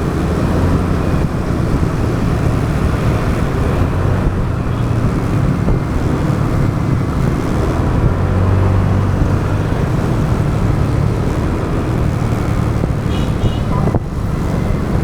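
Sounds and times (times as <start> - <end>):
road noise rushing: 0.0 - 15.0.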